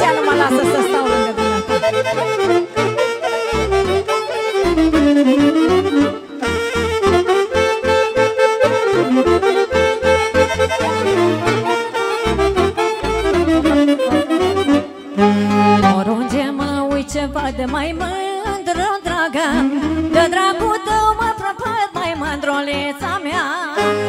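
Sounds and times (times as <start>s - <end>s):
wind instrument melody: 0.0s - 22.3s, 23.4s - 24.0s
accordion: 0.0s - 24.0s.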